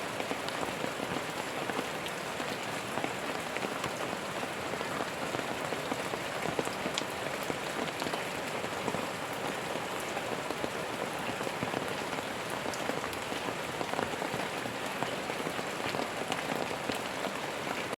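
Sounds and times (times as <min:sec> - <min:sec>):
rain pattering on hard surface: 0:00.0 - 0:18.0.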